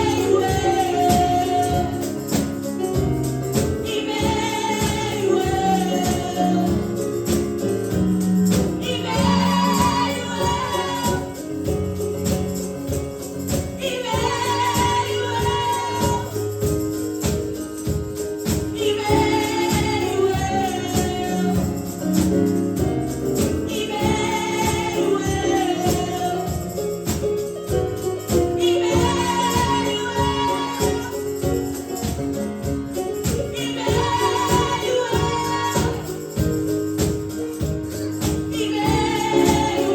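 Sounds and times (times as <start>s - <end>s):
worship music singers: 0.0s - 39.9s.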